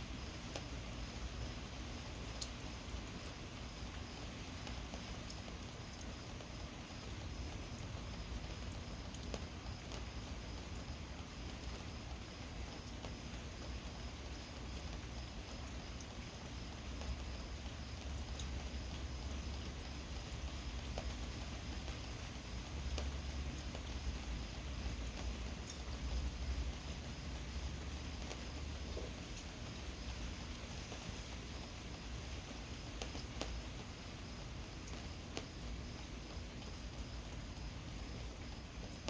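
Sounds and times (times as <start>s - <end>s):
raindrops tapping: 0.0s - 39.0s
steady rain: 0.0s - 39.0s.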